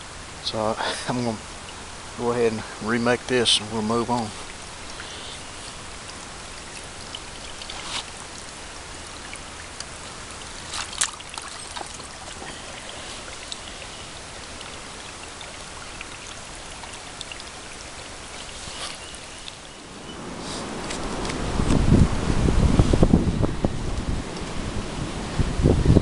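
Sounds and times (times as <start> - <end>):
water pattering and trickling: 0.8 - 22.0.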